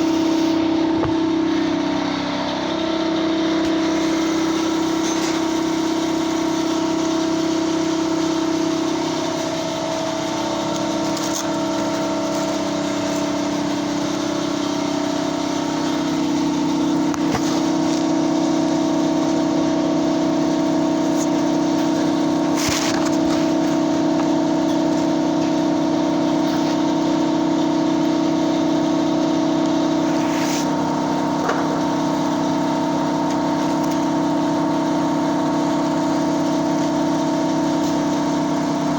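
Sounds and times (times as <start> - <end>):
motor running steadily: 0.0 - 38.9.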